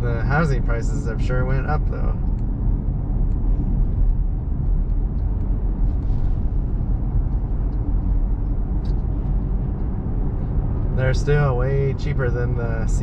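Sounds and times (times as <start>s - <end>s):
truck road and engine rumble: 0.0s - 13.0s.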